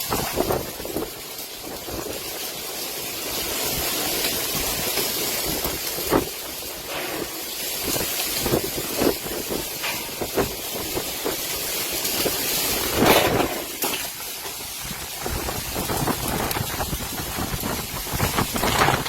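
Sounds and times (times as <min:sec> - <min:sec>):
storm wind gusting: 0:03.2 - 0:19.0.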